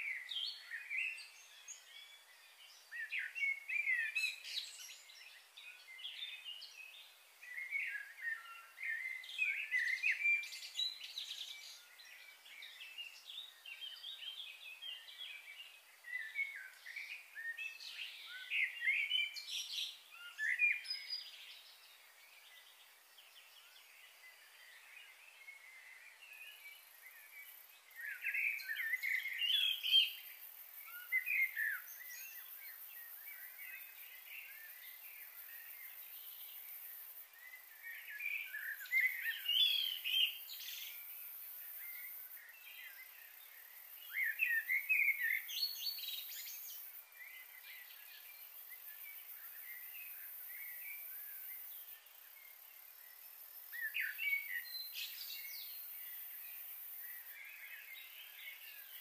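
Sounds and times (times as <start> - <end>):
faint high hiss: 0.0 - 59.0.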